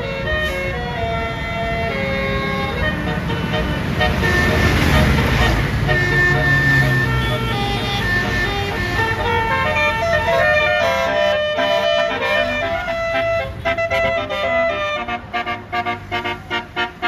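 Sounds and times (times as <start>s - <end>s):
bus air horn melody: 0.0s - 17.0s
bus engine rumble: 0.0s - 17.0s.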